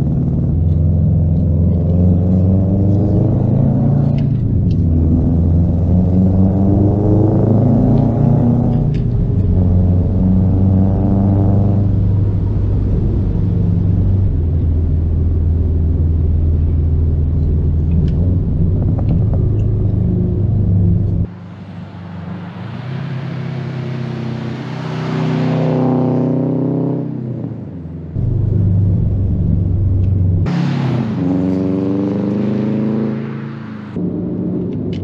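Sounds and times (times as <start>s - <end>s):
car exhaust drone: 0.0s - 35.0s.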